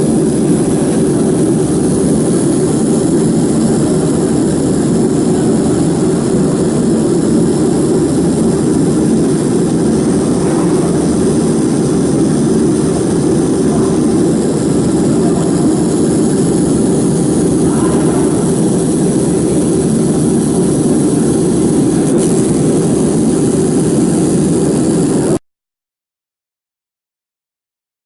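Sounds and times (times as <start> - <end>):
laser marking machine whirring: 0.0 - 25.4.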